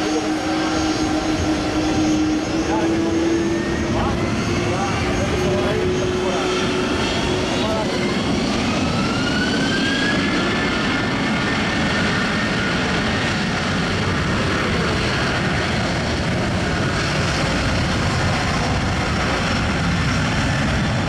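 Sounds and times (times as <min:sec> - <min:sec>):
jet engines at high power: 0:00.0 - 0:21.0.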